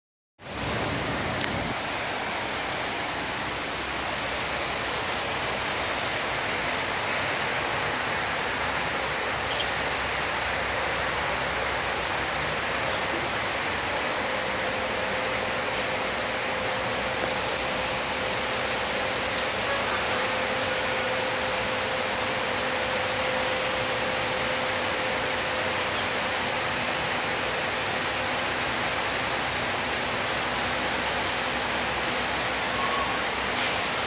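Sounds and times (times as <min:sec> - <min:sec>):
heavy rain hissing: 0:00.4 - 0:34.0.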